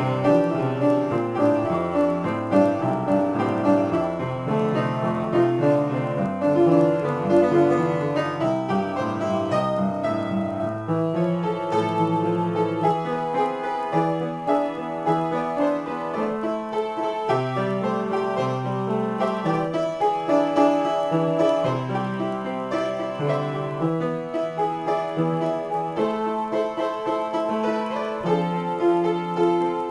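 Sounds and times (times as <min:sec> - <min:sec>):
solo piano improvisation: 0:00.0 - 0:29.9.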